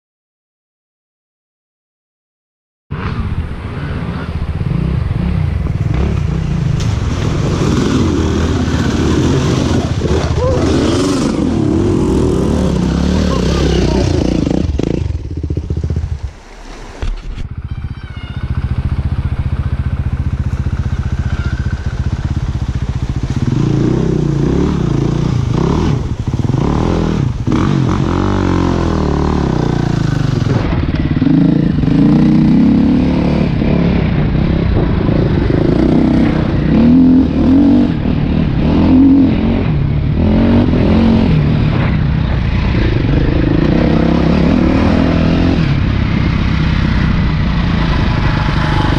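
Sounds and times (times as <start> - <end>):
dirt bike engine revving: 3.0 - 16.2, 18.4 - 48.9.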